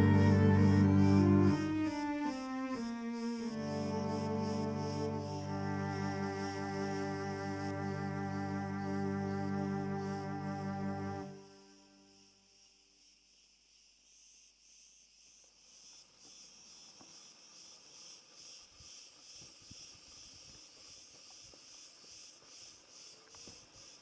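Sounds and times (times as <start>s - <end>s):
insect chirring: 0.0s - 24.0s.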